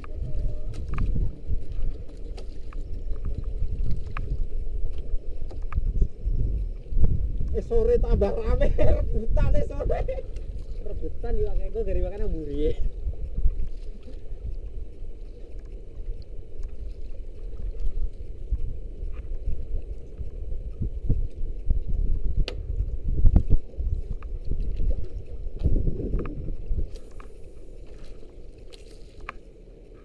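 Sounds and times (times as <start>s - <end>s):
low rumble of wind and water: 0.0s - 30.0s.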